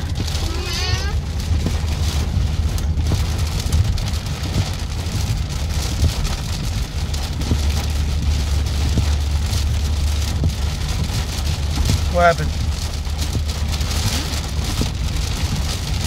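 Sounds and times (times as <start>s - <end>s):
heavy rain on car windshield: 0.0s - 16.0s
road and engine rumble: 0.0s - 16.0s.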